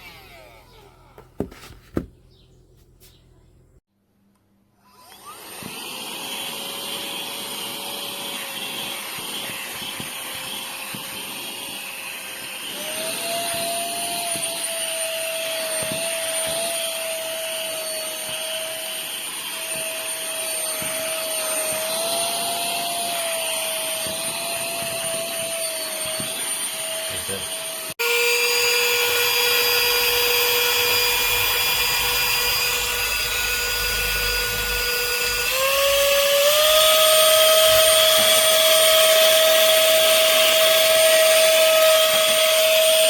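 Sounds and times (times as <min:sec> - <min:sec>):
handheld vacuum motor whining: 0:00.0 - 0:02.1, 0:04.8 - 0:43.0.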